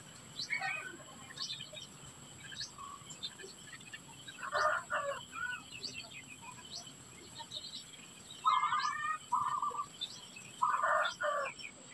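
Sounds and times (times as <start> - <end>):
harsh bird calls: 0.0 - 11.9.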